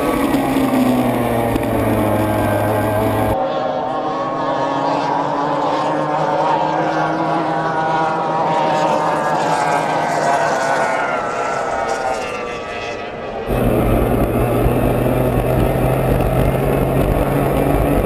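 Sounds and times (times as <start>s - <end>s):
powerboat engines passing: 0.0s - 18.0s.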